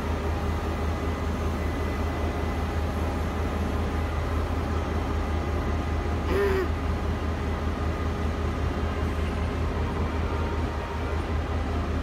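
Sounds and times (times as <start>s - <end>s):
faint steady tones: 0.0s - 12.0s
train rumbling on rails: 0.0s - 12.0s.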